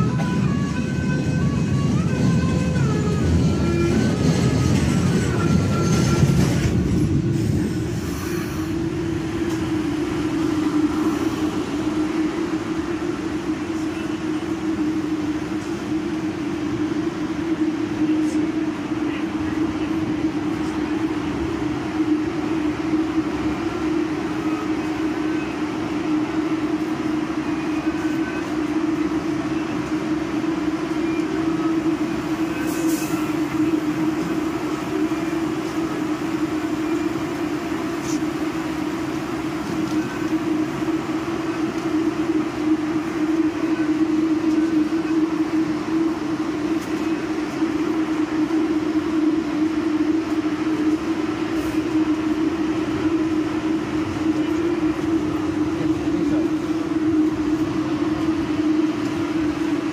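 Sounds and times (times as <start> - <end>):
constant hum: 0.0 - 59.9
subway train rumbling: 0.0 - 59.9.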